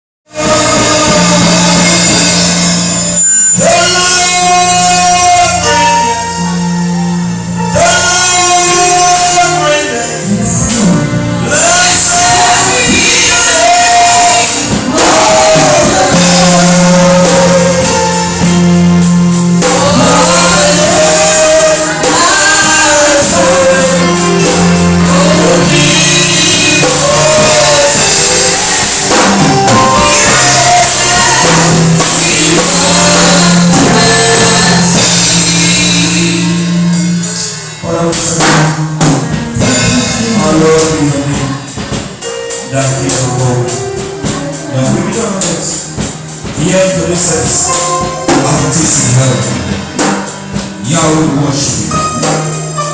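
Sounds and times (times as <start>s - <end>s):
drums: 0.2s - 52.9s
bass line: 0.3s - 52.9s
person singing worship song: 0.3s - 52.9s.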